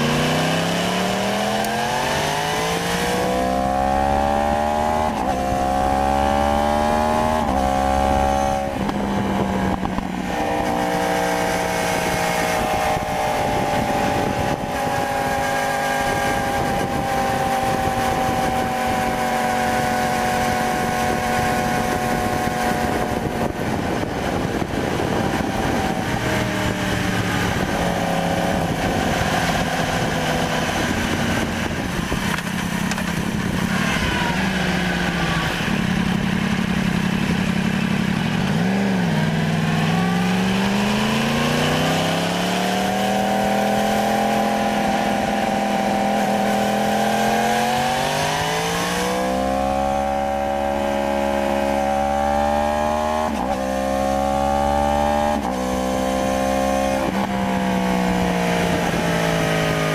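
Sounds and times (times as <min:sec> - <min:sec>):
motorcycle engine: 0:00.0 - 0:59.9
rushing wind: 0:00.0 - 0:59.9.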